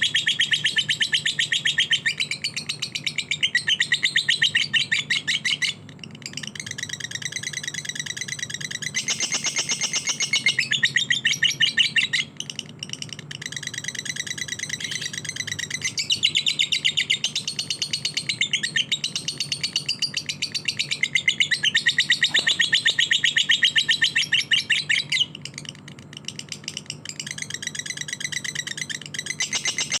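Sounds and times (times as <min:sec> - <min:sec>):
faint low hum: 0:00.0 - 0:30.0
lovebird rapid high chirps: 0:00.0 - 0:30.0.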